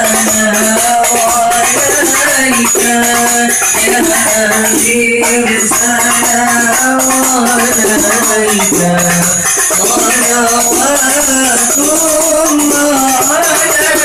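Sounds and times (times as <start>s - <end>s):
shaker-like rattle: 0.0s - 14.0s.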